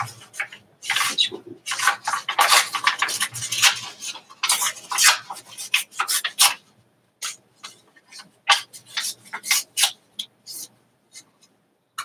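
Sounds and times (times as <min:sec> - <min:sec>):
paper rustling: 0:00.0 - 0:06.6, 0:07.2 - 0:11.3.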